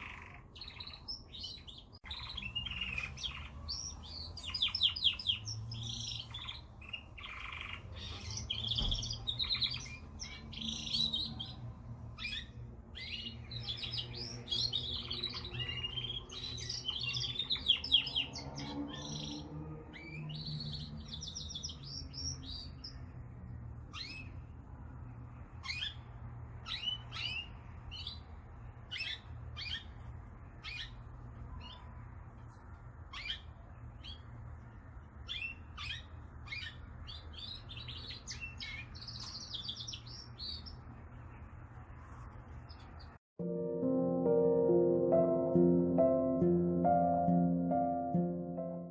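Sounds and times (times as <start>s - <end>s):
canary singing: 0.0s - 23.2s, 23.8s - 32.1s, 33.0s - 41.3s.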